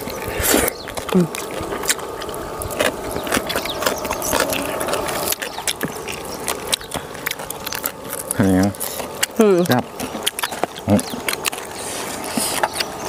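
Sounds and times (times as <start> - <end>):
crunching and chewing crispy meat: 0.0 - 13.0.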